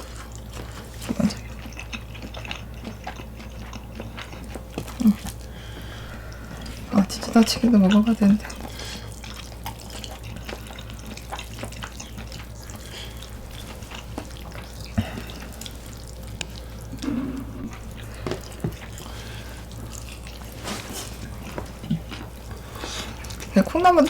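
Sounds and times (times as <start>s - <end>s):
wet chewing and lip smacks: 0.0s - 23.6s
steady low hum: 0.0s - 24.0s.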